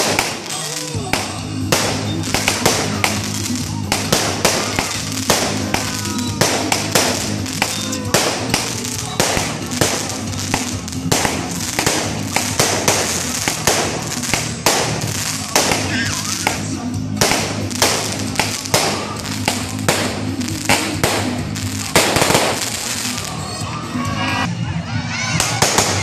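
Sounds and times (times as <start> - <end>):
fireworks bangs and crackling: 0.0 - 24.5, 25.4 - 26.0.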